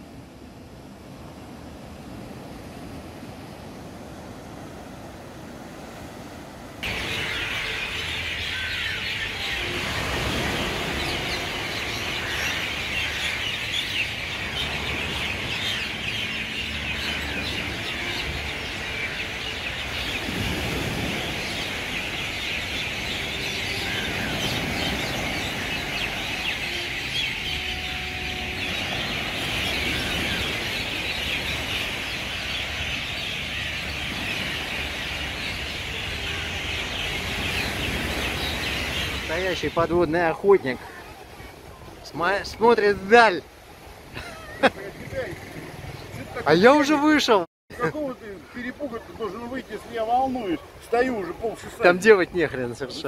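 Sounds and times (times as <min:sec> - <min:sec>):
small waves washing onto beach: 0:00.0 - 0:53.0
chorus of birds chirping: 0:06.8 - 0:53.0.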